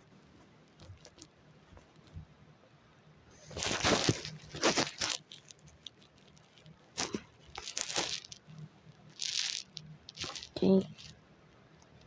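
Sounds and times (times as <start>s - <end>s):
rustling crinkling noise: 0.1s - 2.3s, 3.4s - 12.0s.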